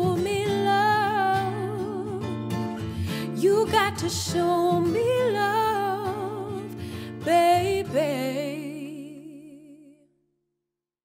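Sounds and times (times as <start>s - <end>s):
strummed acoustic guitar: 0.0s - 9.1s
woman singing: 0.0s - 10.1s.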